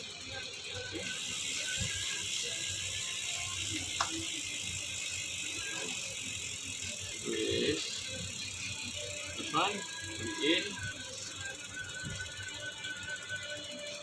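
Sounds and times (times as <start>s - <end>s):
bicycle chain running: 0.0s - 14.0s.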